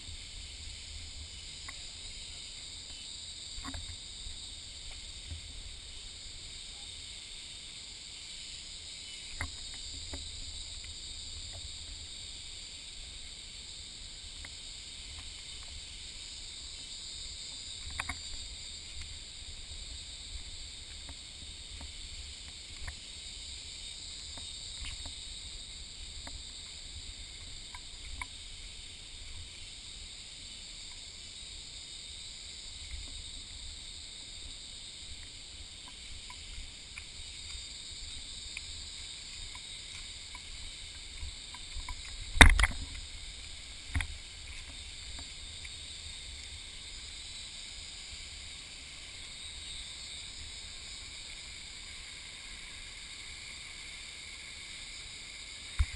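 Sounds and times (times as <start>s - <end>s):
high outdoor hiss: 0.0s - 55.9s.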